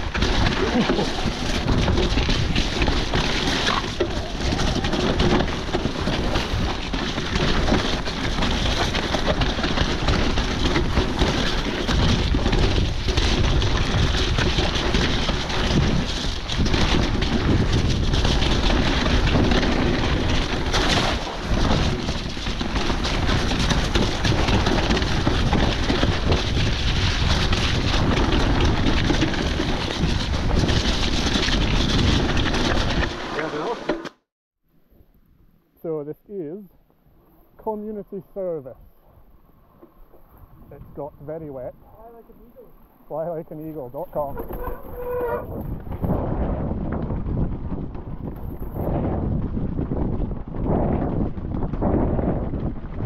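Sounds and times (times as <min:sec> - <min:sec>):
wind buffeting microphone: 0:00.0 - 0:33.9, 0:37.7 - 0:53.0
bike rumbling and knocking: 0:00.0 - 0:34.2, 0:39.0 - 0:53.0.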